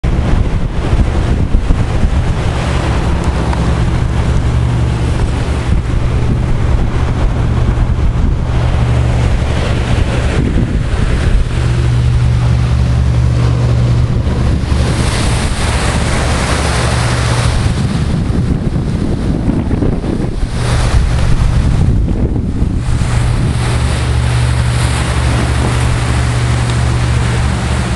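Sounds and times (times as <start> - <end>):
sea rushing under ship bow: 0.0 - 27.9
wind buffeting microphone: 0.0 - 27.9.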